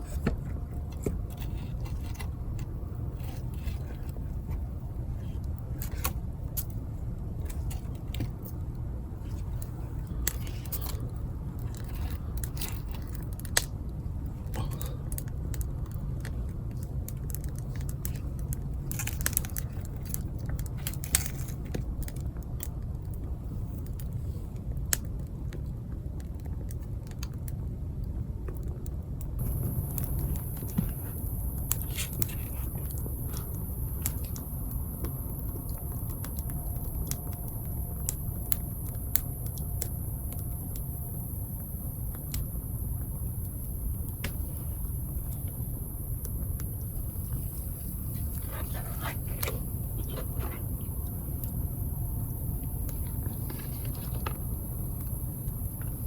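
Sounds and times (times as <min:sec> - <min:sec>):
low rumble: 0:00.0 - 0:24.4, 0:27.8 - 0:56.0
sharp clicks and crackles: 0:07.4 - 0:56.0.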